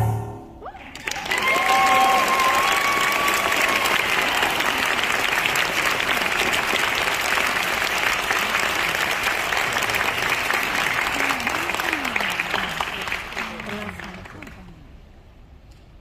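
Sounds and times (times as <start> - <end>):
audience applauding: 0.7 - 14.6.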